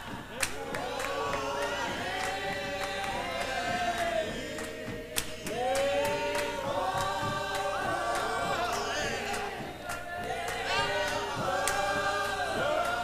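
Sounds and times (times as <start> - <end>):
choir singing unaccompanied: 0.0 - 13.0
sharp hand clap: 0.0 - 13.0.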